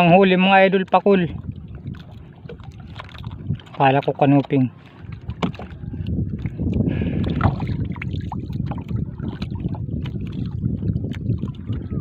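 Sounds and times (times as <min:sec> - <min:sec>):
water lapping: 0:00.0 - 0:12.0
wind rumbling on microphone: 0:00.0 - 0:12.0
clicks and knocks from boat: 0:00.8 - 0:12.0.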